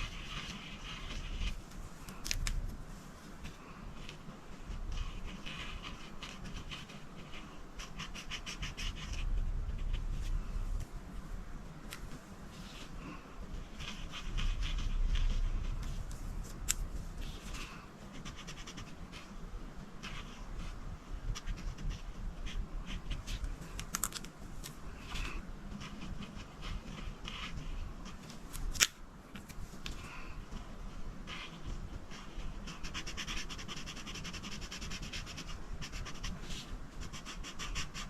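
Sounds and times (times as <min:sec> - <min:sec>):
coloring tool scratching paper: 0:00.0 - 0:10.6, 0:12.2 - 0:28.9, 0:29.8 - 0:38.0.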